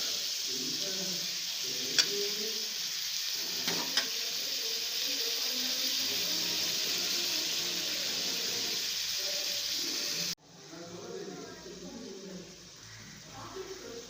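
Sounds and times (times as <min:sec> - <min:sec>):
prawns sizzling in hot oil: 0:00.0 - 0:14.0.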